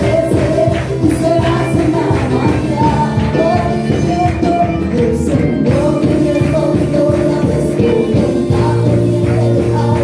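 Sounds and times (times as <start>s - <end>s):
gospel band playing: 0.0s - 10.0s.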